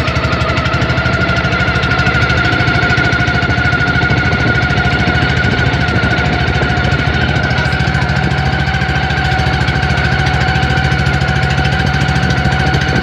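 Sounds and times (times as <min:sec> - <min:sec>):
boat engine chugging: 0:00.0 - 0:13.0
steady engine whine: 0:00.0 - 0:13.0.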